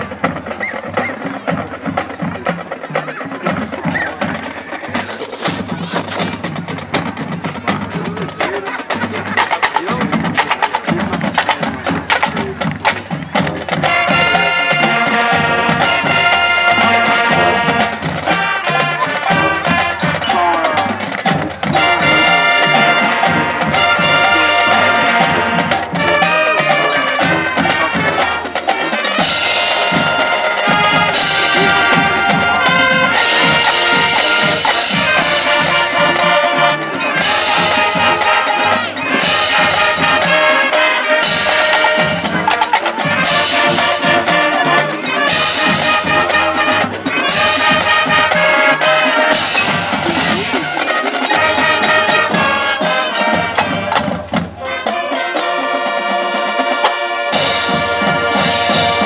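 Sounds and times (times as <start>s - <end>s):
marching band playing: 0.0s - 59.0s.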